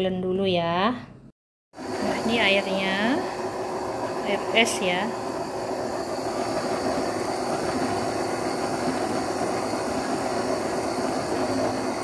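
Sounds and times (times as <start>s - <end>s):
stand mixer motor running: 1.8s - 12.0s.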